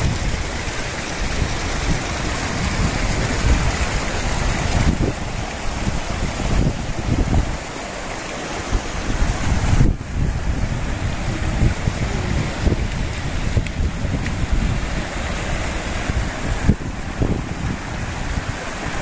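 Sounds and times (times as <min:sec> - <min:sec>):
splashes of wading: 0:00.0 - 0:19.0
stream and cascade rushing: 0:00.0 - 0:19.0.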